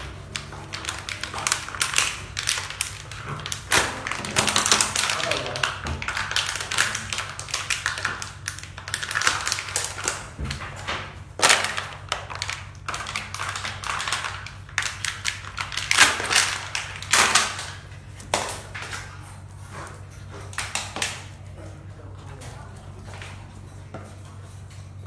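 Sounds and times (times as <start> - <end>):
plastic bottle crackling: 0.0 - 21.4.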